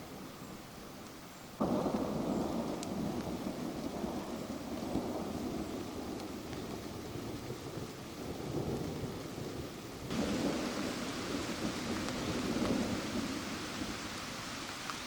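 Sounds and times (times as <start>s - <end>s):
rain falling: 0.0s - 15.0s
thunder rumbling: 1.6s - 15.0s.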